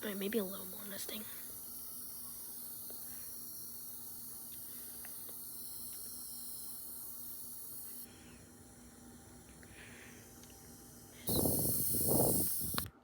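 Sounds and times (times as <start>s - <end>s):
spray bottle hissing: 0.1s - 8.8s, 9.6s - 13.0s.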